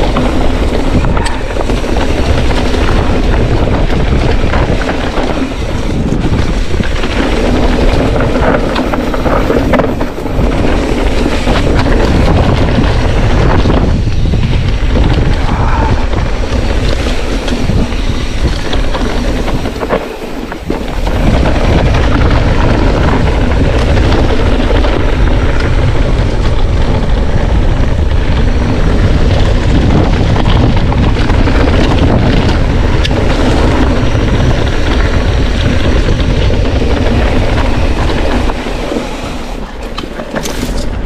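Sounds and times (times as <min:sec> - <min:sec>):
mountain bike rattling on dirt trail: 0:00.0 - 0:41.0
wind buffeting microphone: 0:00.0 - 0:41.0.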